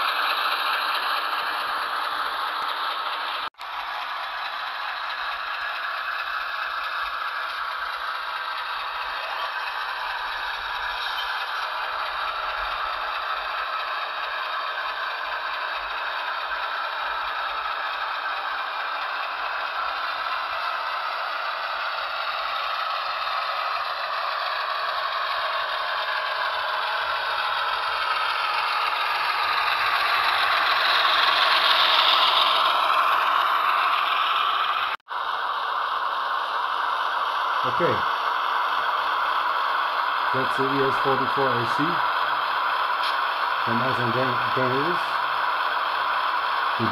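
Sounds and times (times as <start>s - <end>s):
model train diesel engine sound: 0.0s - 46.9s
model train rattling on track: 0.0s - 46.9s.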